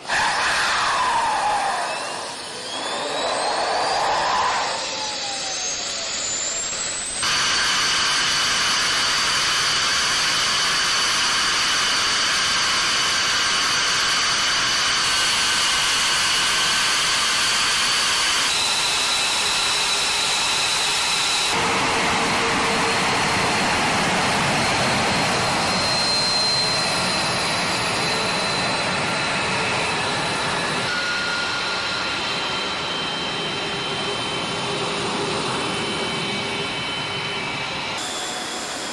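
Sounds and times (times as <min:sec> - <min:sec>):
high-pitched turbine whine: 0:00.0 - 0:38.9
jet engine roar: 0:00.0 - 0:38.9.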